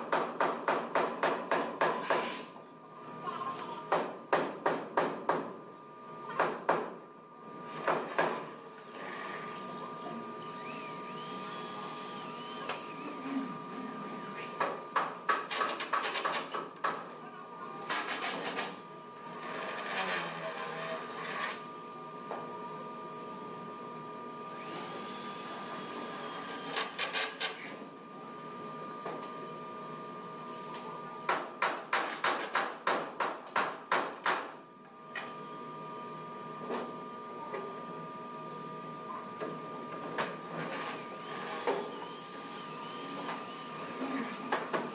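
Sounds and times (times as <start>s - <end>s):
steady mechanical noise: 0.0s - 44.9s
workshop hum: 0.0s - 44.9s.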